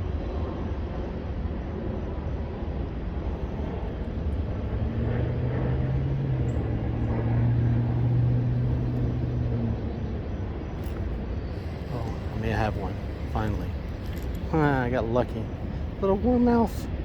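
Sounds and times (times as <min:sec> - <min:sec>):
distant engine hum: 0:00.0 - 0:17.0
low outdoor rumble: 0:00.0 - 0:17.0.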